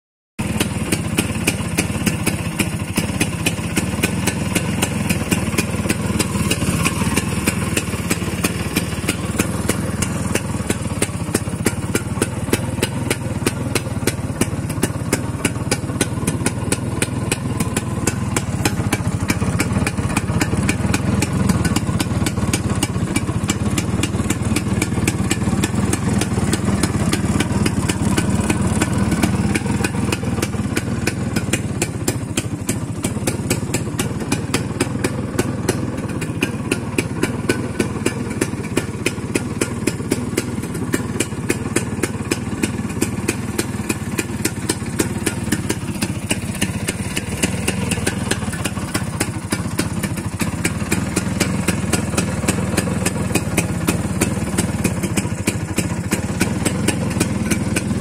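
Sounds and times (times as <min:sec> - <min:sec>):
scooter engine idling: 0:00.4 - 0:58.0.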